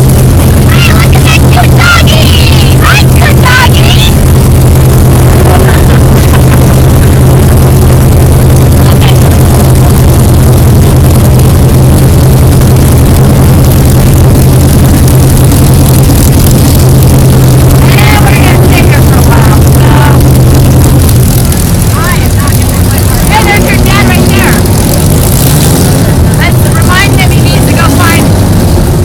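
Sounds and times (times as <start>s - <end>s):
car engine low drone: 0.0s - 29.0s.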